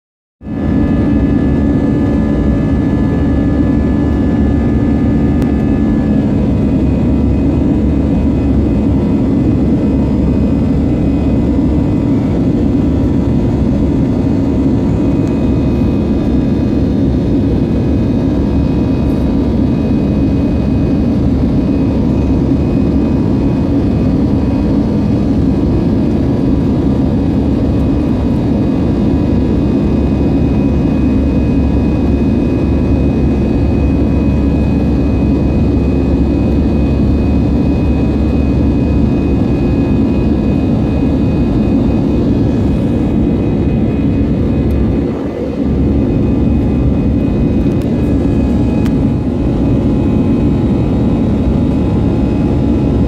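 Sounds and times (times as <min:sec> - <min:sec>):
jet engine drone in cabin: 0:00.4 - 0:53.0
faint whining tones: 0:00.5 - 0:53.0.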